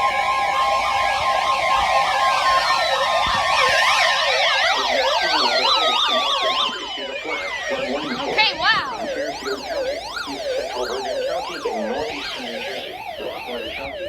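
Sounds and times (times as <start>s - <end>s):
warbling siren-like tones: 0.0s - 14.0s.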